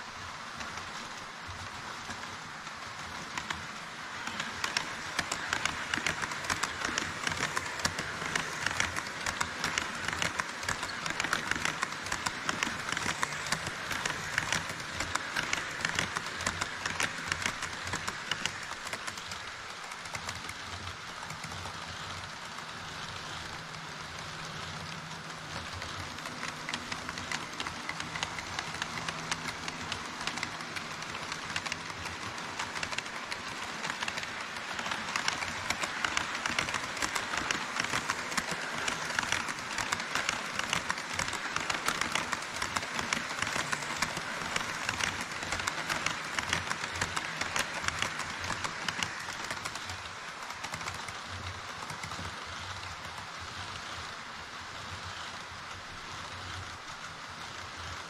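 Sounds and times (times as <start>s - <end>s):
model train wheels clicking on rails: 0.0s - 58.0s.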